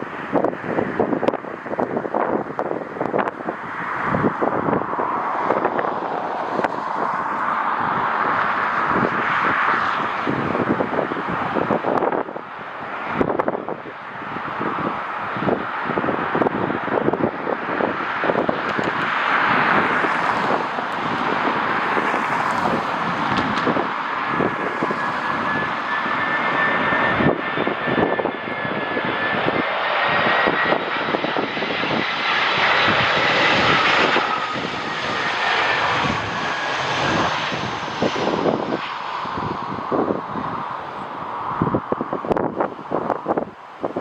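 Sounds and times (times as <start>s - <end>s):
airliner engines whining: 0.0s - 44.0s
wind buffeting microphone: 0.0s - 44.0s.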